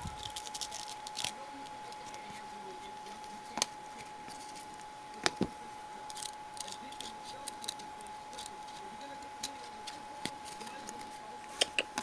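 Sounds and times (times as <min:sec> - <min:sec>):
cards and wrapper rustling: 0:00.0 - 0:05.4, 0:06.1 - 0:12.0
faint high whine: 0:00.0 - 0:12.0.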